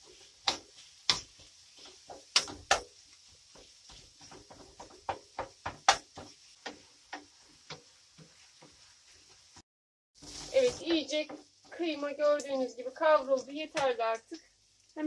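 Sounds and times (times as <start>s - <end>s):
faint steady hiss: 0.0s - 9.6s, 10.2s - 15.0s
wooden spatula scraping frying pan: 0.0s - 9.6s, 10.2s - 14.2s.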